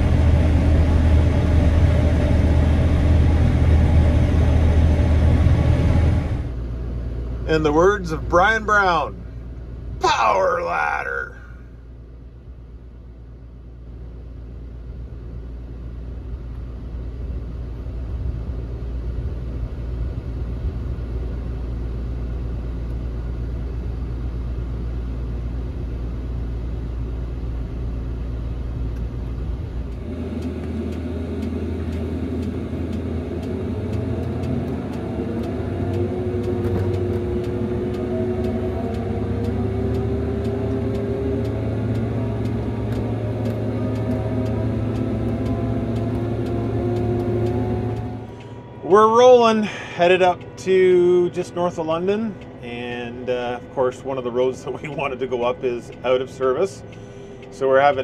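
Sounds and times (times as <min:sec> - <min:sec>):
combine engine note rising: 0:00.0 - 0:11.7, 0:15.9 - 0:58.0
combine harvester cab hum: 0:00.0 - 0:58.0.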